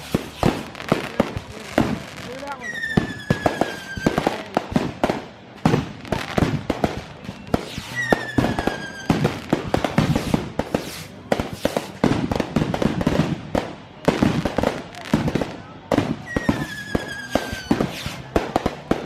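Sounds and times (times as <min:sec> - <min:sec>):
fireworks bangs and crackling: 0:00.0 - 0:19.0
whistling firework: 0:00.0 - 0:19.0.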